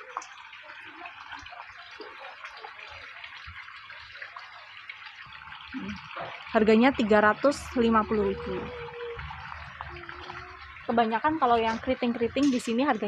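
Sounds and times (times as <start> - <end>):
water splashing into pond: 0.0 - 13.0.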